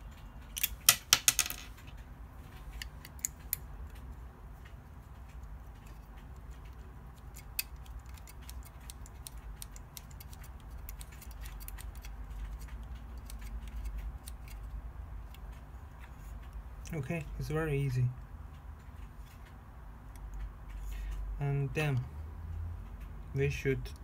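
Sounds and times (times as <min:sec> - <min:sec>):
low steady hum: 0:00.0 - 0:24.0
small parts clicking and tapping: 0:00.0 - 0:24.0.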